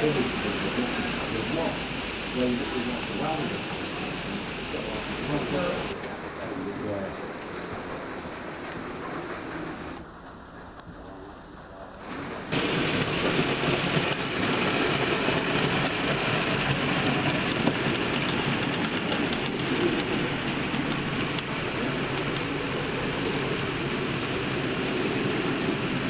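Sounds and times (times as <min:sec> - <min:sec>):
model train wheels clattering on rail: 0:00.0 - 0:10.9, 0:11.9 - 0:26.0.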